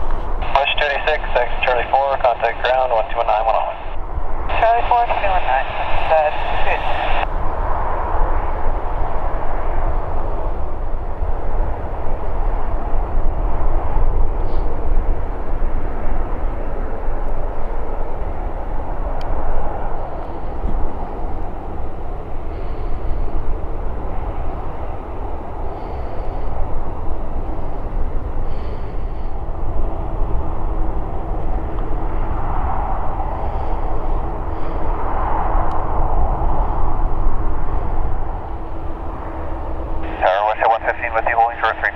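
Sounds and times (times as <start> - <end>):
faint steady hum: 0.0 - 41.9
jet engines rumbling: 0.0 - 41.9.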